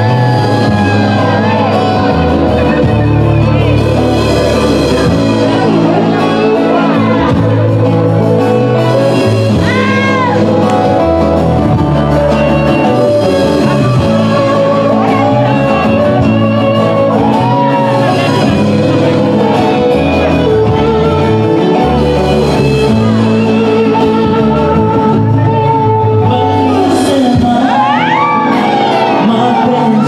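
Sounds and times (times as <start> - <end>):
live band playing: 0.0 - 30.0.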